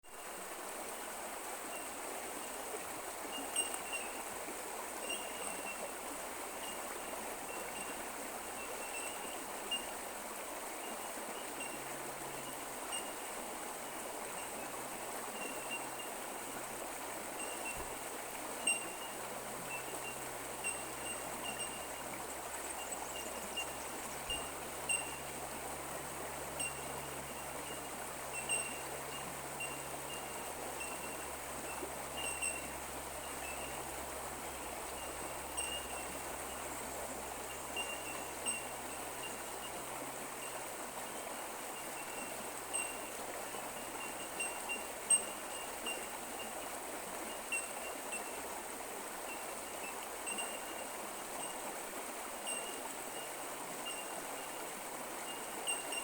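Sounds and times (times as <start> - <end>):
creek water running: 0.0 - 56.0.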